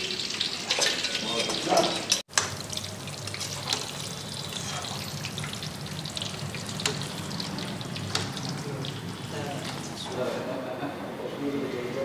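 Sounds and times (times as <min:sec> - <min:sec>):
food sizzling in hot oil: 0:00.0 - 0:10.1.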